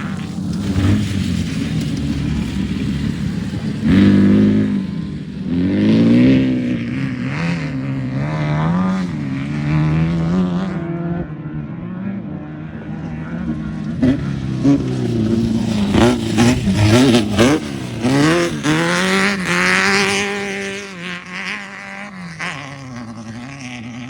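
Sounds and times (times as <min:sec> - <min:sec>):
race car engine revving: 0:00.0 - 0:24.0.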